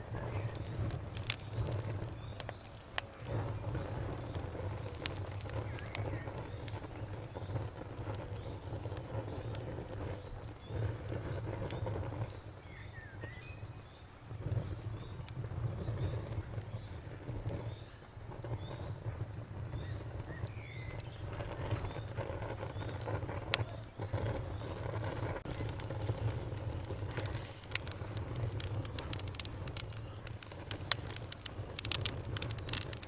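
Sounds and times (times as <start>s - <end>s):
campfire crackling and popping: 0.0s - 33.0s
crickets chirping: 0.0s - 33.0s.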